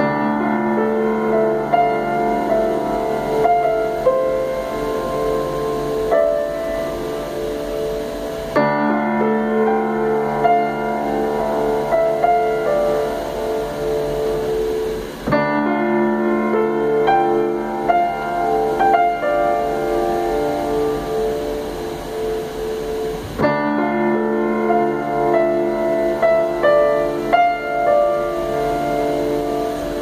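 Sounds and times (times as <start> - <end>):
piano chords and notes: 0.0 - 30.0.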